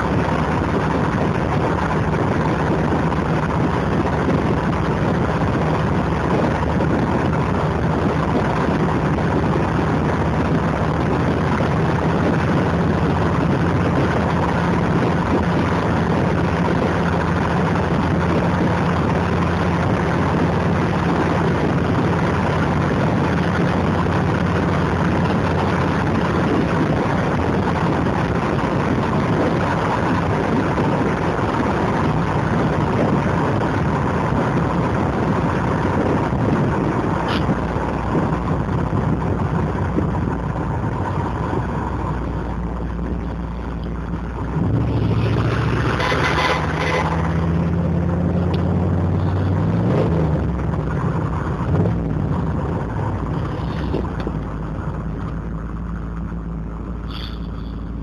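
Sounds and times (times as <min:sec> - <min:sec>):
car engine cruising: 0:00.0 - 0:58.0
road noise: 0:00.0 - 0:58.0.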